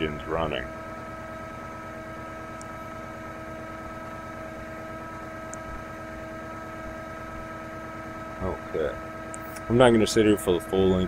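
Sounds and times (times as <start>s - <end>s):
steady whine: 0.0s - 11.0s.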